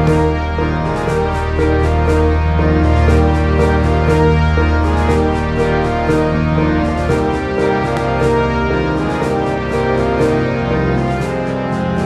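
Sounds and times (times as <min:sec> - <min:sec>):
shifting chords: 0:00.0 - 0:12.0.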